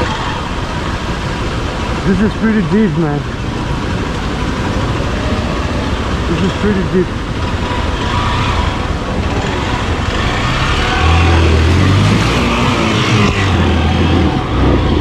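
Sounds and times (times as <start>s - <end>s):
motorcycle engine running: 0.0s - 15.0s
river water rushing: 0.0s - 15.0s.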